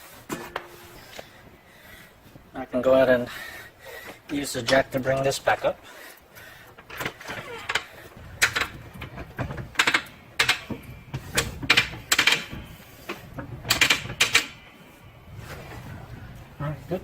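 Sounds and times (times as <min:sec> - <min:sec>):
car jack metallic clacks: 0:00.0 - 0:01.8, 0:03.9 - 0:16.4.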